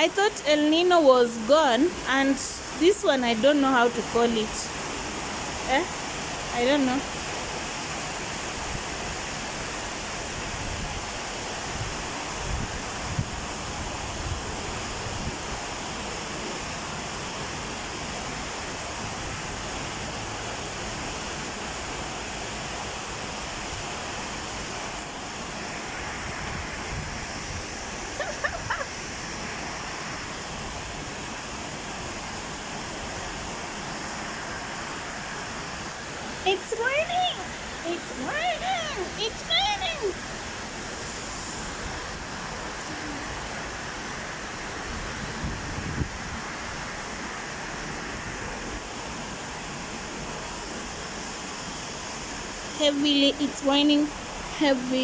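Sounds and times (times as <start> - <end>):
heavy rain falling: 1.6 - 55.0.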